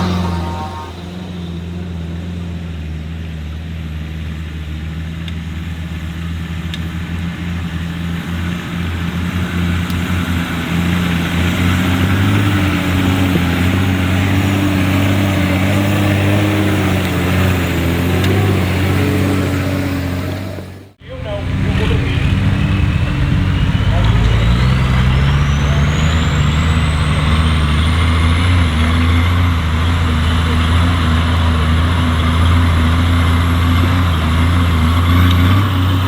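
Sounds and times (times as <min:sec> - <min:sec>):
off-road vehicle engine running: 0:00.0 - 0:36.0.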